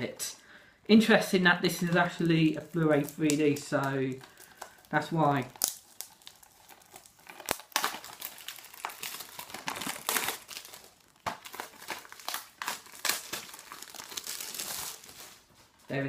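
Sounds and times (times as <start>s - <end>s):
plastic shrink-wrap crinkling: 0.9s - 16.0s.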